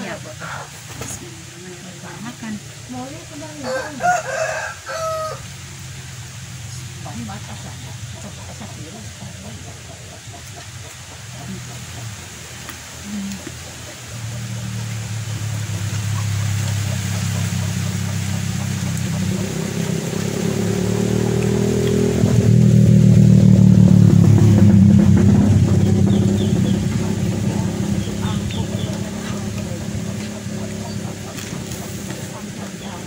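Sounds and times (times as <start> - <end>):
motorcycle engine drone: 5.3 - 33.0.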